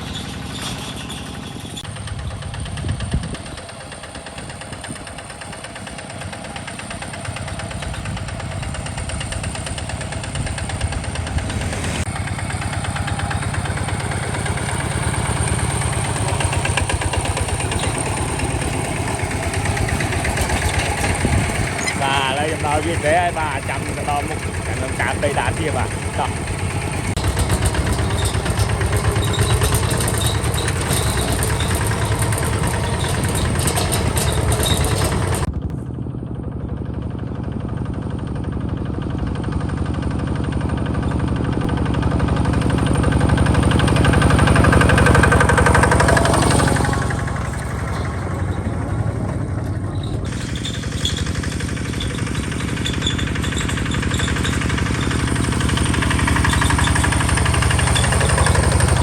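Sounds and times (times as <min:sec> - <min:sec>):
hand tractor diesel engine knocking: 0:00.0 - 0:35.5, 0:37.8 - 0:59.0.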